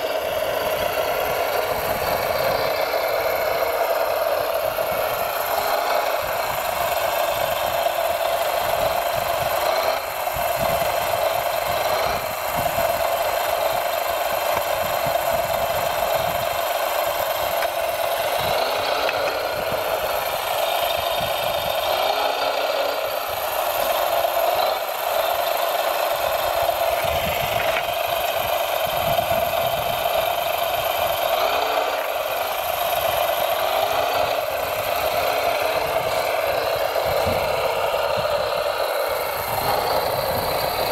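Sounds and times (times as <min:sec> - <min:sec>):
mechanical whine: 0:00.0 - 0:40.9.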